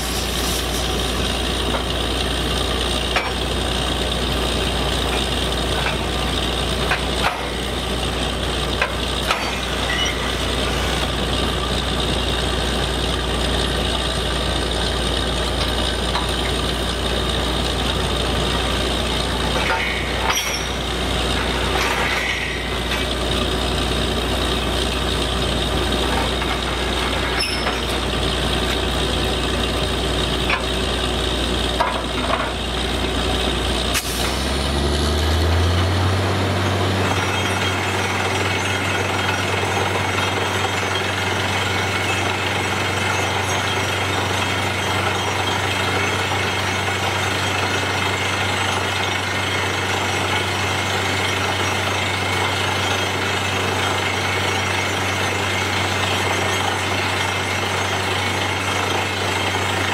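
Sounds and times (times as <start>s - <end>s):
diesel engine and air compressor: 0.0s - 59.9s.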